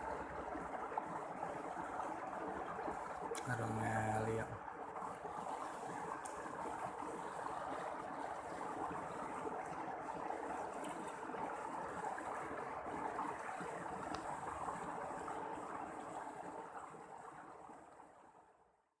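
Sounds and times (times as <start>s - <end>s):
river water flowing: 0.0s - 18.3s.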